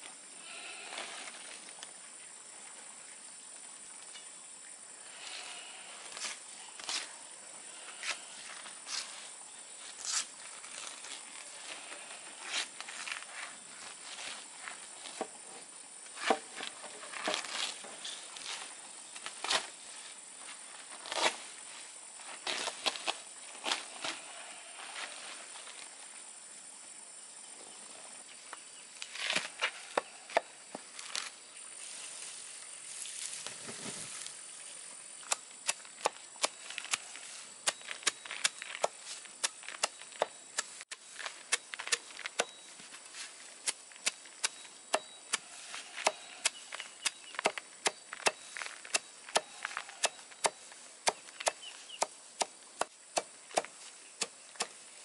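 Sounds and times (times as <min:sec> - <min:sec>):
rustle: 0:00.0 - 0:55.0.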